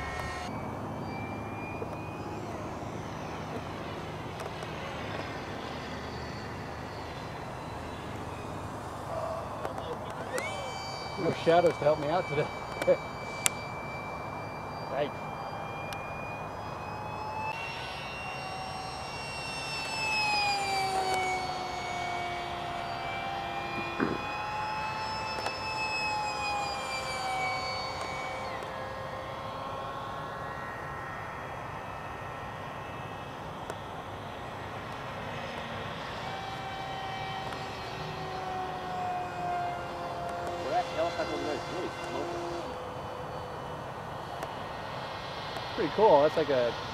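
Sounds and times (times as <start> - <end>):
model jet fan whining: 0.0 - 46.9.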